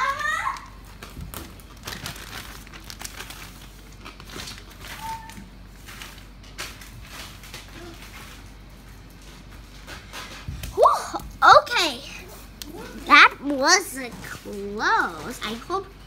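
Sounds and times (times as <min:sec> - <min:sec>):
plastic toys clicking and crinkling: 0:00.0 - 0:11.3, 0:12.0 - 0:16.0.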